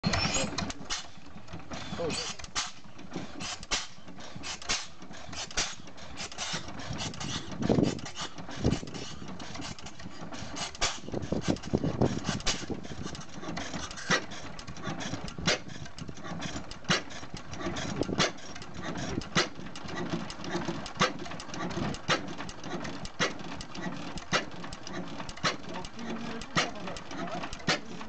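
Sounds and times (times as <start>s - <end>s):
stationary oil engine running: 0.0s - 28.0s.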